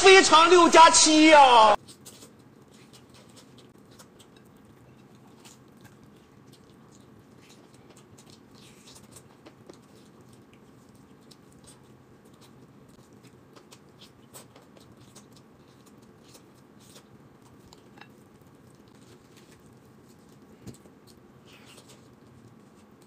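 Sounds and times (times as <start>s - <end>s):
chewing: 1.8s - 23.0s.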